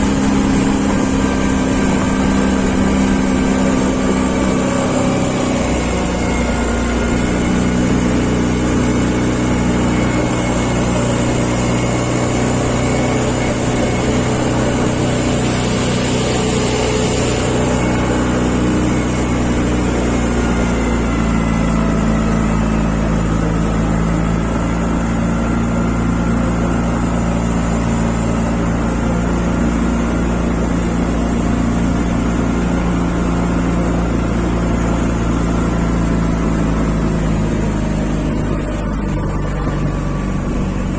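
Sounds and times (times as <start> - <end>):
engine droning: 0.0 - 40.9.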